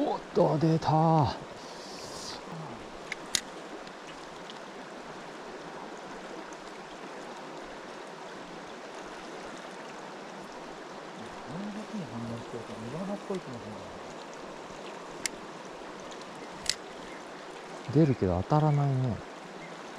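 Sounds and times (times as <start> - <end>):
stream water rushing: 0.0 - 19.9.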